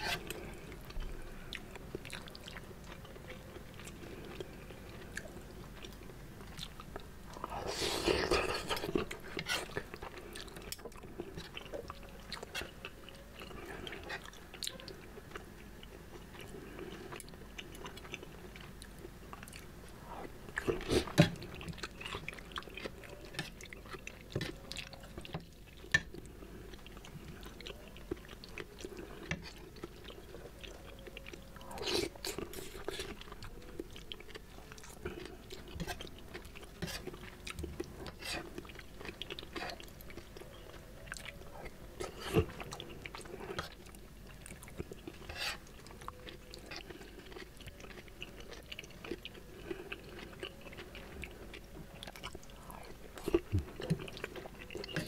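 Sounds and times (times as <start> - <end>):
man chewing with wet mouth sounds: 0.0 - 55.0.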